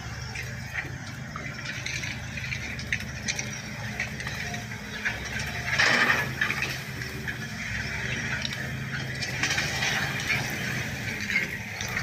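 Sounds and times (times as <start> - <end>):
diesel engine running: 0.0 - 12.0
loud clatter: 1.6 - 12.0
metallic squealing of tracks: 1.8 - 12.0.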